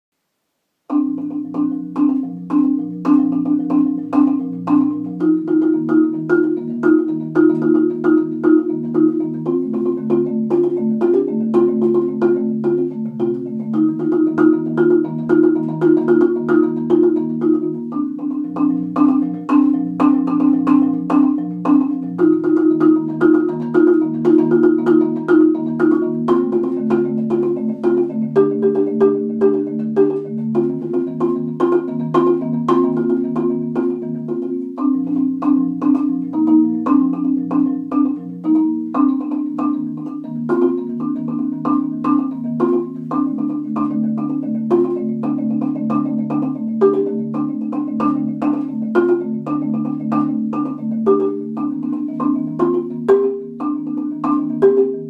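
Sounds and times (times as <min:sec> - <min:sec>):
marimba chords: 0:00.9 - 0:55.0.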